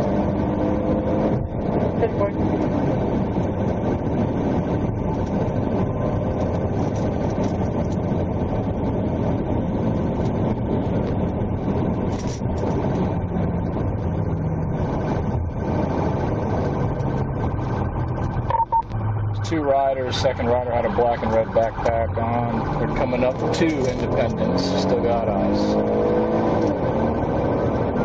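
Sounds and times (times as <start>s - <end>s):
car engine drone: 0.0s - 28.0s.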